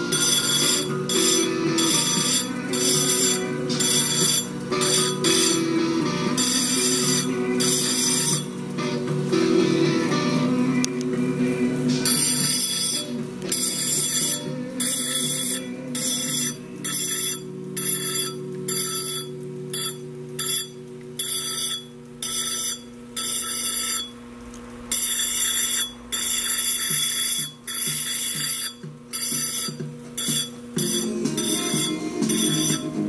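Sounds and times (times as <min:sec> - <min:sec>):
engraving wheel grinding glass: 0:00.0 - 0:09.0, 0:11.6 - 0:33.0.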